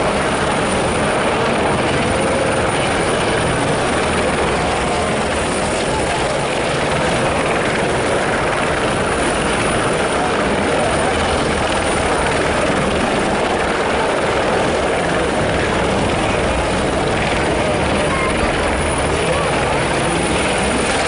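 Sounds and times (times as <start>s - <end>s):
helicopters hovering: 0.0s - 21.0s.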